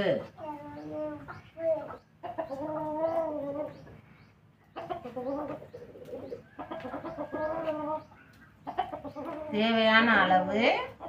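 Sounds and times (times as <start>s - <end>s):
chicken wavering calls: 0.0s - 11.0s.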